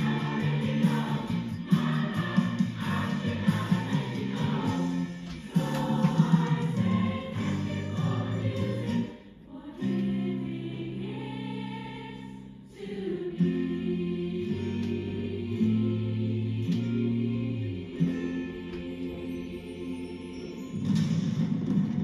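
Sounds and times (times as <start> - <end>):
choir singing sustained chords: 0.0 - 21.4.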